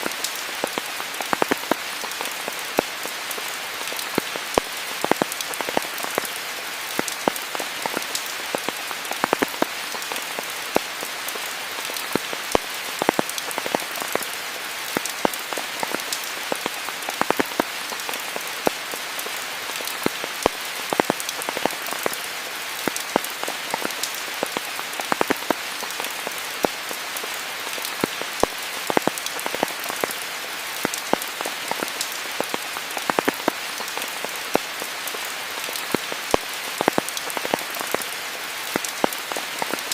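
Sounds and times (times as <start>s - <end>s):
raindrops ticking close by: 0.0s - 39.9s
steady rain hiss: 0.0s - 39.9s.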